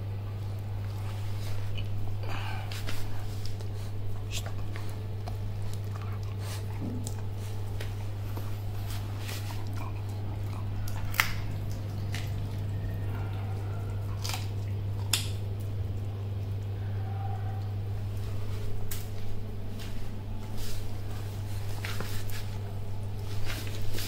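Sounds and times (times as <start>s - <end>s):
steady low hum: 0.0s - 24.0s
dogs chewing chicken wings: 0.1s - 24.0s.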